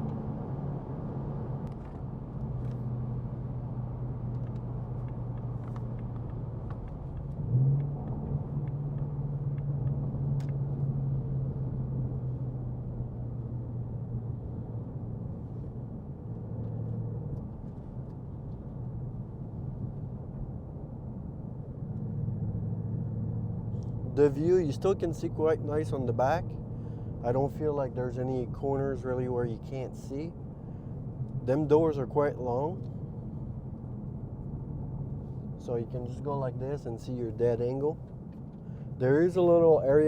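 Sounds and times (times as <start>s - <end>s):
car engine cruising: 0.0s - 20.4s, 21.0s - 40.0s
road noise: 0.0s - 40.0s.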